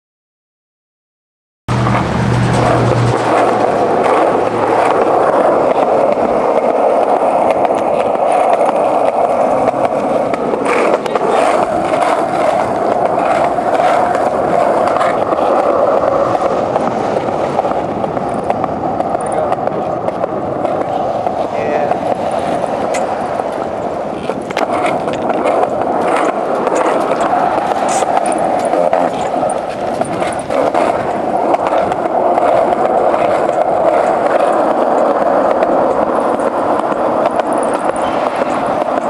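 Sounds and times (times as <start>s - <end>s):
skateboard wheels clacking: 1.7s - 39.0s
skateboard wheels rolling on concrete: 1.7s - 39.0s.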